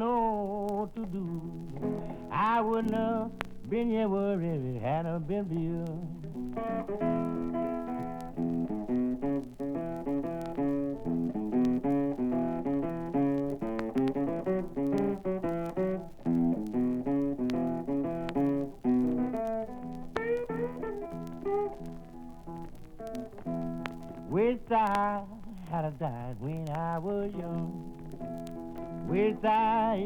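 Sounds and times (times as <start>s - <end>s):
blues guitar picking: 0.0s - 30.0s.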